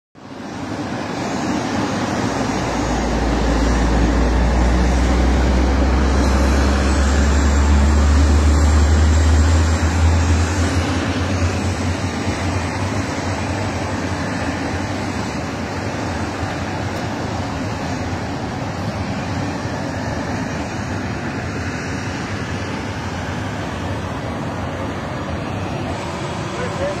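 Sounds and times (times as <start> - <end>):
jet engines roaring: 0.2 - 27.0.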